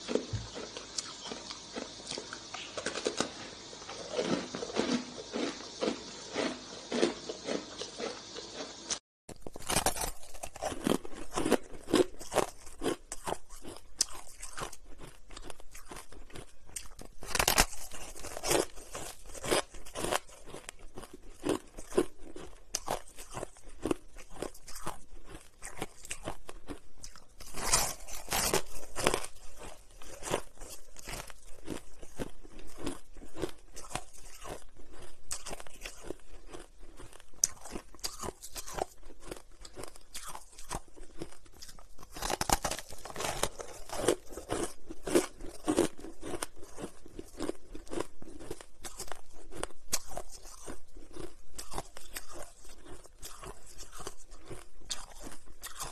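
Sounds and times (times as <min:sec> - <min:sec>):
crunching and chewing ice: 0:00.0 - 0:55.9.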